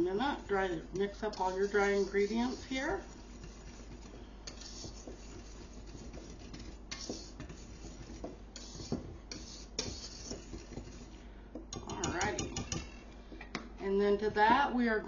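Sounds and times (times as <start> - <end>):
utensil scraping metal bowl: 0.2 - 11.2, 11.8 - 13.1.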